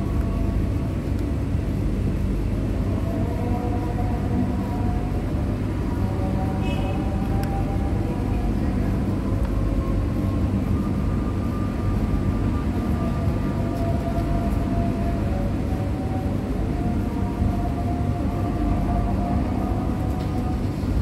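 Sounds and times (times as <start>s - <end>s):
faint humming tones: 0.0s - 21.0s
low engine rumble: 0.0s - 21.0s.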